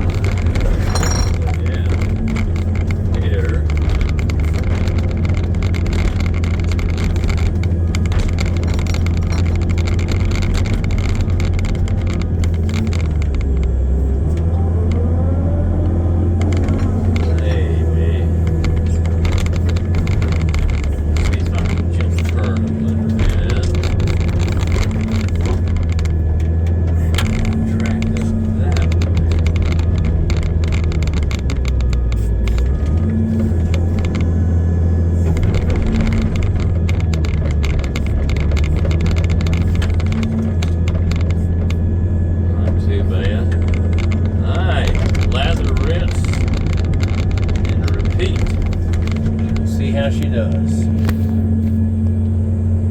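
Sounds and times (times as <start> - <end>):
clanking and rattling: 0.0 - 52.9
heavy equipment engine running: 0.0 - 52.9.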